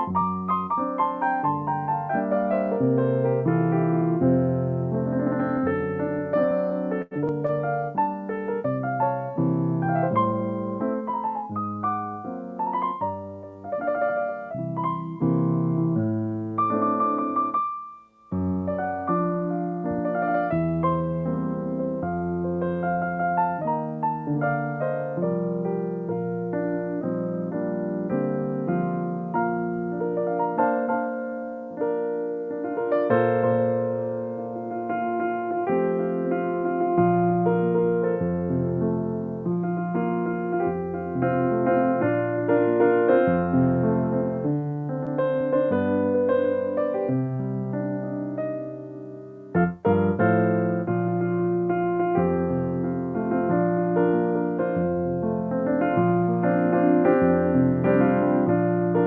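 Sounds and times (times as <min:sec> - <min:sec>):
solo piano playing chords: 0:00.0 - 0:59.0.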